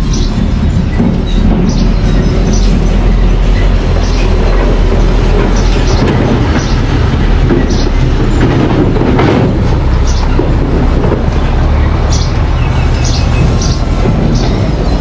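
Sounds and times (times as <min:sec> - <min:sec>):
diesel engine rumble: 0:00.0 - 0:15.0
steel tracks clanking and squealing: 0:00.0 - 0:15.0.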